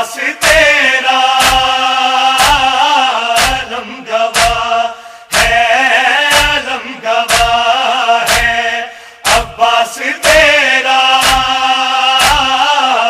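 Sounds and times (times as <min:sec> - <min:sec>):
men chanting a lament: 0:00.0 - 0:13.0
rhythmic chest-beating thuds: 0:00.0 - 0:13.0.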